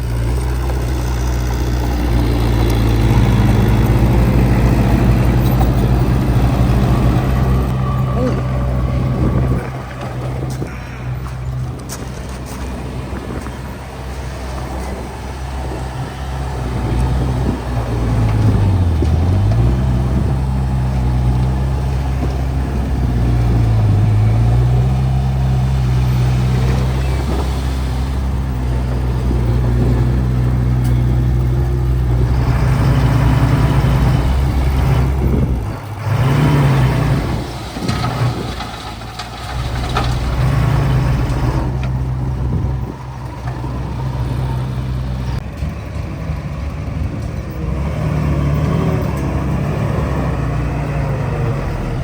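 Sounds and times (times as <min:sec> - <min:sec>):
diesel engine under load: 0:00.0 - 0:52.0.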